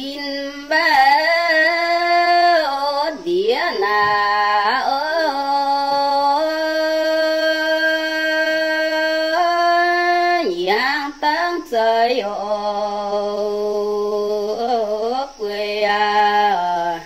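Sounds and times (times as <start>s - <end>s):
woman singing folk song: 0.0s - 17.0s.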